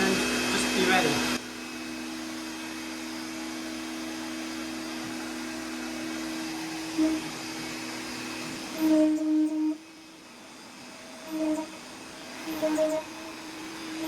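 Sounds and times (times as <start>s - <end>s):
router spindle running: 0.0s - 14.0s.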